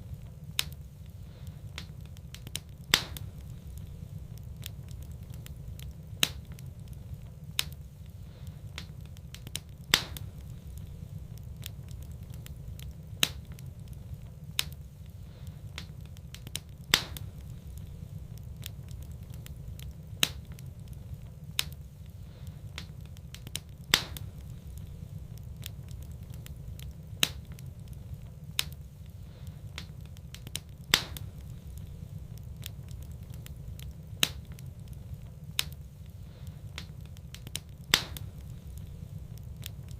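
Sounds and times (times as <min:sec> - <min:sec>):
fire low rumble: 0:00.0 - 0:39.9
wood fire crackling: 0:00.0 - 0:39.9.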